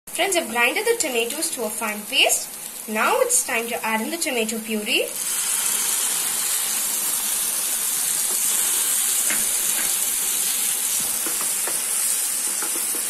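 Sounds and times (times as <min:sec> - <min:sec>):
onions sizzling in hot oil: 0:00.1 - 0:13.0.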